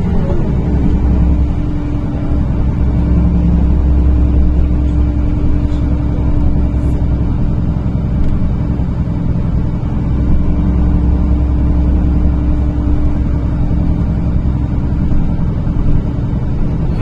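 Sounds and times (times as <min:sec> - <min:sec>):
bus engine rumble from inside: 0:00.0 - 0:17.0.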